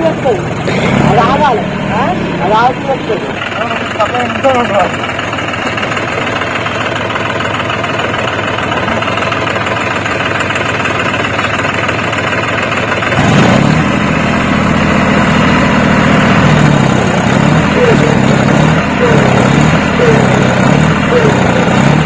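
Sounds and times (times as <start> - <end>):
deep loud engine note: 0.0 - 9.4, 13.1 - 22.0
tractor diesel engines running: 0.0 - 22.0.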